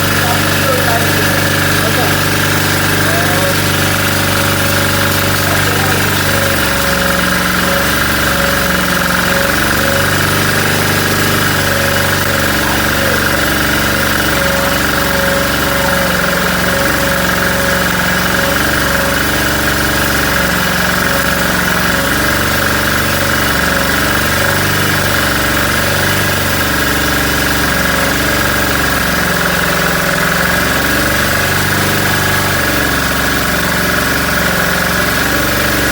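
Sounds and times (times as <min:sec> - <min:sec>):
engine running steadily: 0:00.0 - 0:35.9.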